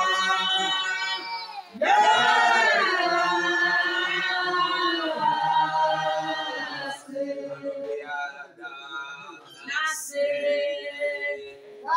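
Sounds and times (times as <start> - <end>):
group singing a cappella: 0.0 - 11.9.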